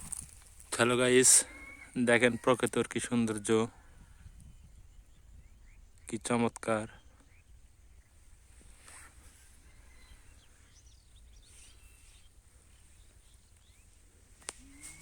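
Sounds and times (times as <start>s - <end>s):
distant bird chirps: 0.0s - 15.0s.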